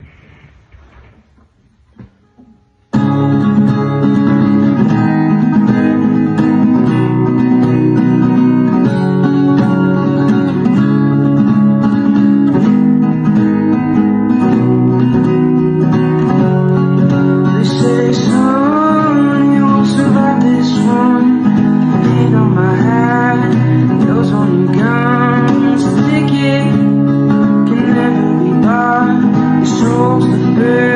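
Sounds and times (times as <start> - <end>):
guitar plucked and strummed: 0.0 - 30.9.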